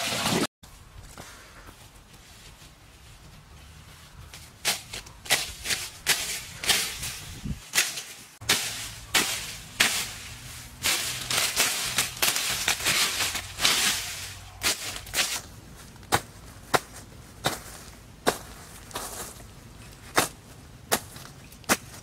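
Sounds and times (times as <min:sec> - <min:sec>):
leafy brush rustling and snapping: 0:04.2 - 0:22.0.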